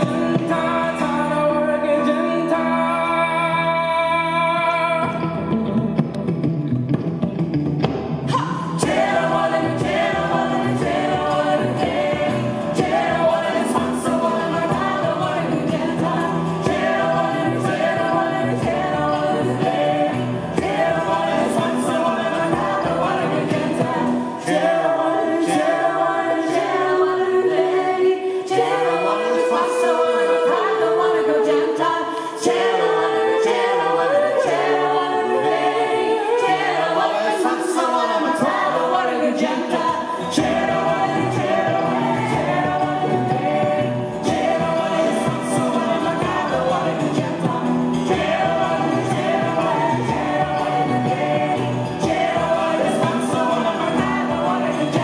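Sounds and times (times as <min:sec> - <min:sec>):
group singing in harmony: 0:00.0 - 0:05.6, 0:08.2 - 0:55.0
guitars: 0:00.0 - 0:55.0.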